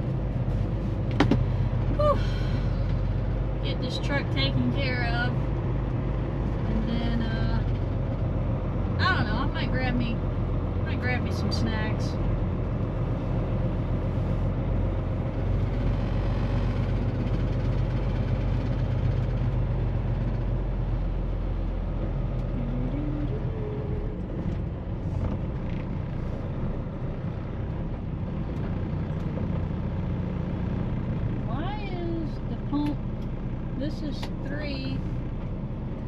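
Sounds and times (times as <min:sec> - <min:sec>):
diesel truck engine low hum: 0:00.0 - 0:36.0.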